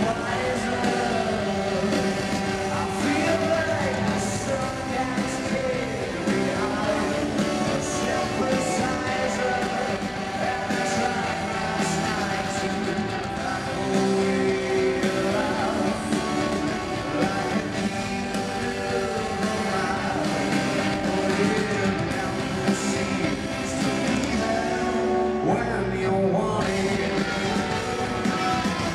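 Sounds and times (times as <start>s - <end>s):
drums: 0.0s - 28.9s
electric guitar: 0.0s - 28.9s
person singing: 0.0s - 28.9s.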